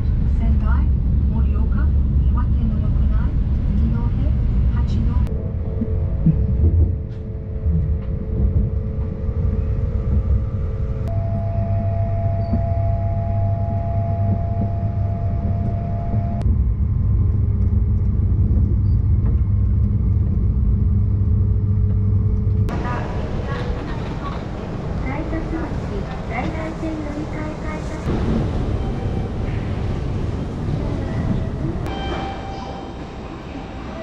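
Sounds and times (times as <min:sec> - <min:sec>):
steady hum: 0:00.0 - 0:34.0
train cabin rumble: 0:00.0 - 0:34.0.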